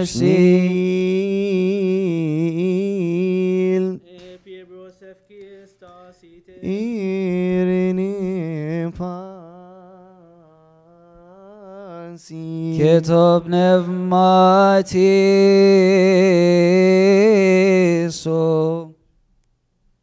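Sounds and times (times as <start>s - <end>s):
man chanting unaccompanied: 0.0s - 19.0s.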